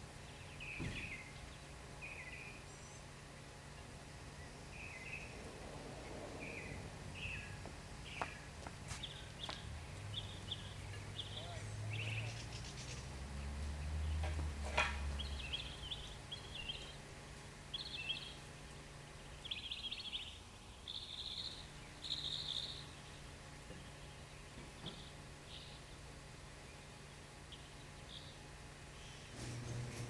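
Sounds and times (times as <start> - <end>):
low steady hum: 0.0 - 30.0
small birds chirping: 0.1 - 30.0.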